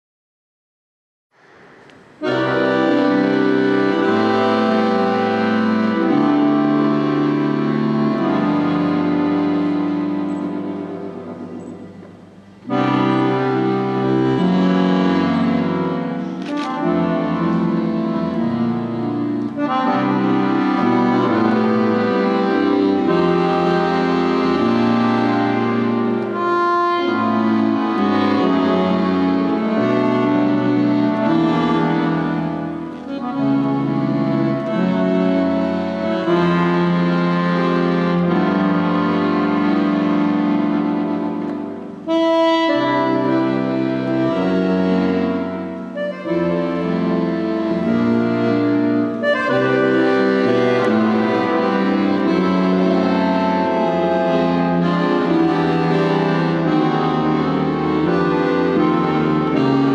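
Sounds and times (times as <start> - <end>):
accordion playing melody: 1.7 - 59.9.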